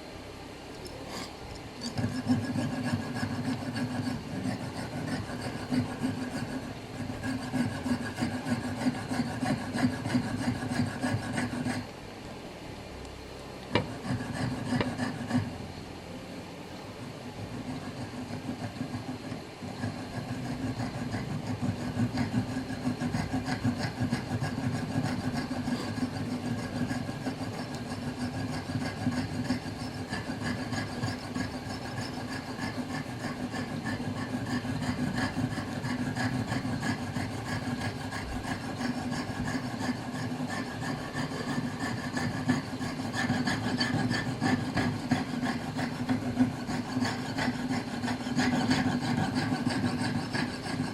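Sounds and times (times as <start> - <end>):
fine saw blade rasping: 0.7 - 11.9, 13.7 - 15.7, 17.0 - 50.9.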